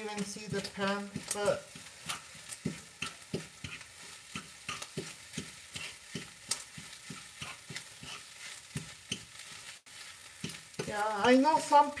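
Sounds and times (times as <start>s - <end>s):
food sizzling in a frying pan: 0.0s - 12.0s
utensil scraping a pan: 0.0s - 12.0s.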